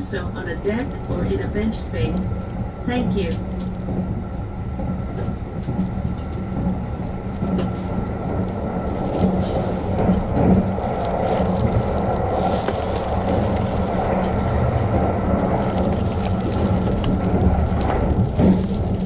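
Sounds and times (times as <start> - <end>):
rolling wheel and rail noise: 0.0 - 19.0
train cabin hum: 0.0 - 19.0.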